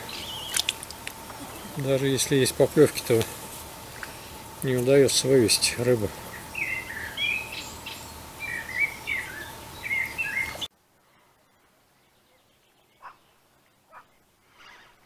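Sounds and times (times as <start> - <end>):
songbird singing: 0.0 - 10.7, 11.4 - 15.0
steady outdoor hiss: 0.0 - 15.0.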